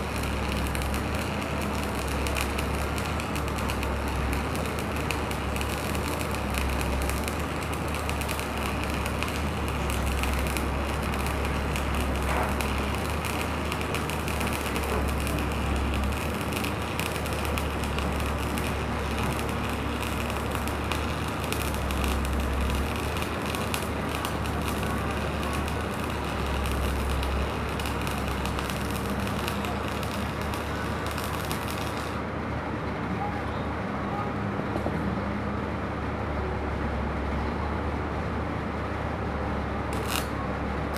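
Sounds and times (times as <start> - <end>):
welding arc crackling: 0.0 - 32.3, 39.9 - 40.9.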